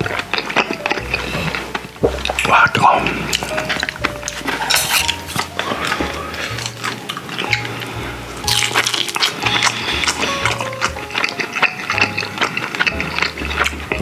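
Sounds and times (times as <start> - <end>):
background music with bass line: 0.0 - 11.2, 11.9 - 14.0
wet chewing and lip smacks: 0.0 - 14.0.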